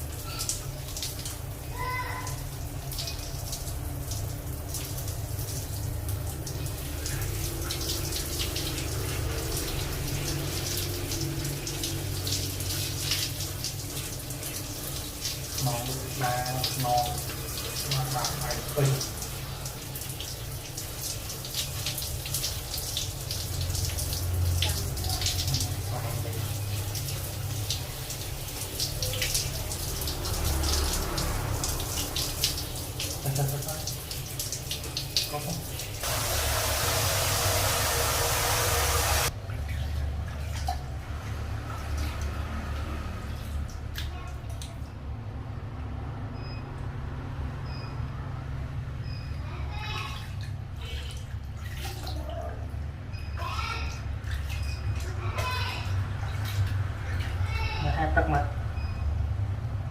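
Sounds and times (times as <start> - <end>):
water running from a tap: 0.0 - 44.8, 49.1 - 58.9.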